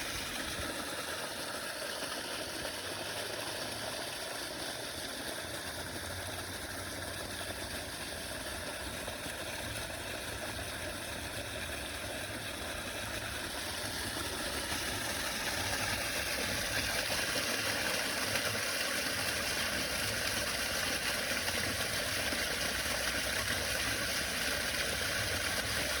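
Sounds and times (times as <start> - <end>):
irrigation water rushing: 0.0 - 26.0.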